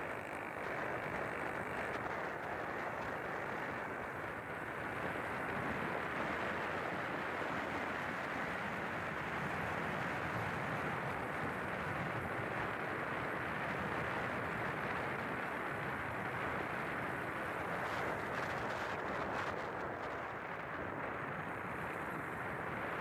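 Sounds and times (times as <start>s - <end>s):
road noise: 0.0s - 23.0s
wind buffeting microphone: 0.0s - 23.0s.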